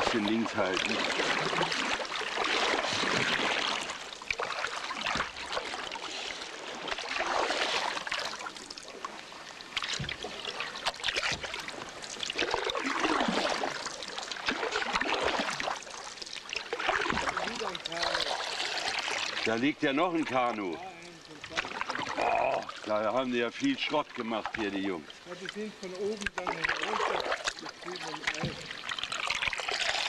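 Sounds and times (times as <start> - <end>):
river water rushing and splashing: 0.0 - 30.0.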